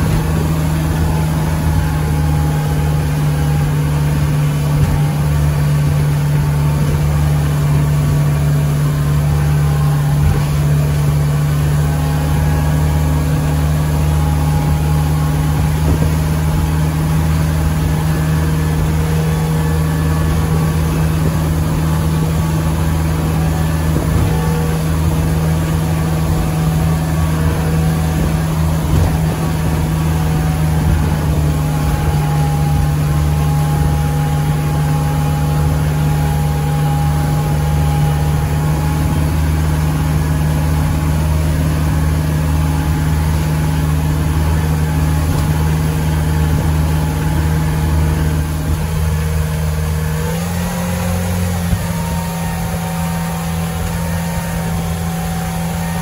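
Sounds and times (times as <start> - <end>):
motorboat engine running: 0.0 - 56.0
water rushing from wake: 0.0 - 56.0.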